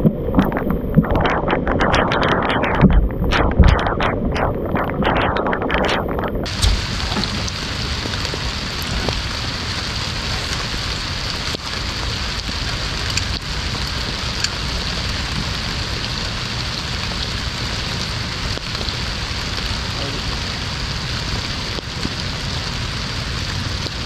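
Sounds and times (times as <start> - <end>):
rain hissing on water: 0.0 - 24.0.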